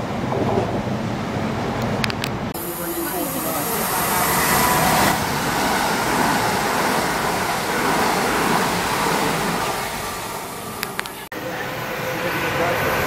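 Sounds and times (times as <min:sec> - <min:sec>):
electric train passing at speed: 0:00.0 - 0:13.0.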